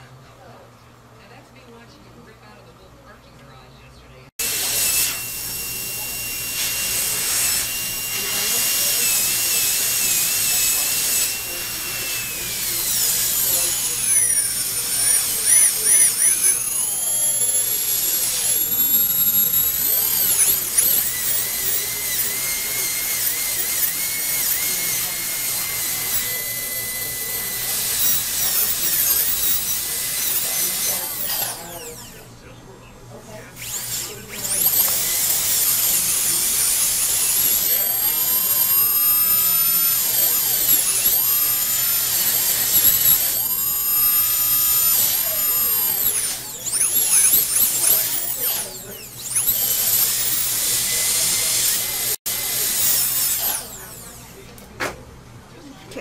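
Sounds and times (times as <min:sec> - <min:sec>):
dental drill whining: 0:04.4 - 0:32.5, 0:33.3 - 0:54.6.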